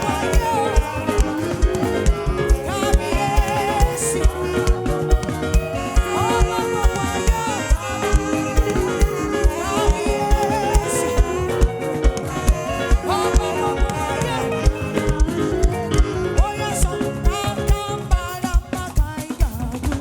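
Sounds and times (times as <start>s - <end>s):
gospel praise band music: 0.0s - 20.0s.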